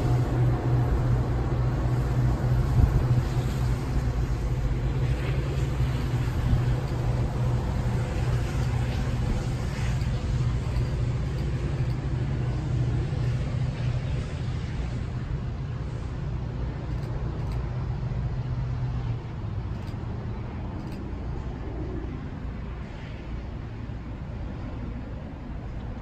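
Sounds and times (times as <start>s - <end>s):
train diesel engine rumbling: 0.0s - 26.0s.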